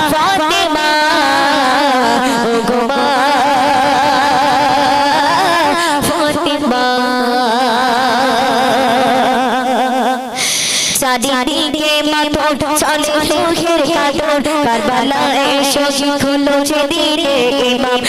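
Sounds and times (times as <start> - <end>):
woman singing devotional song: 0.0 - 18.0.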